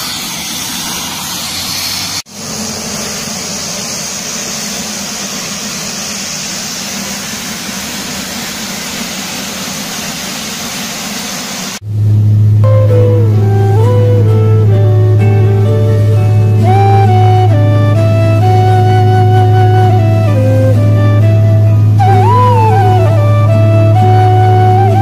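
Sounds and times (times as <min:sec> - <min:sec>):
turboprop engines running: 0:00.0 - 0:25.0.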